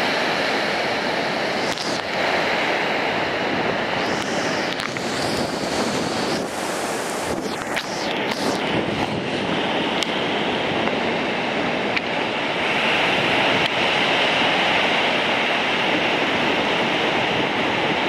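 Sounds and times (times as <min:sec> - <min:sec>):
stormy surf breaking: 0:00.0 - 0:18.0
wind gusting on microphone: 0:00.0 - 0:18.0.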